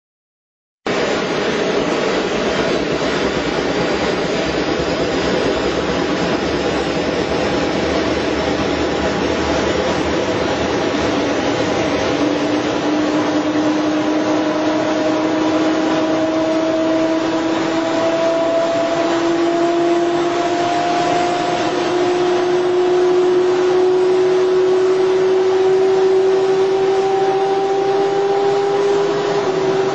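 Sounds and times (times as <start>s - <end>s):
jet engine spooling up: 0.9s - 29.9s.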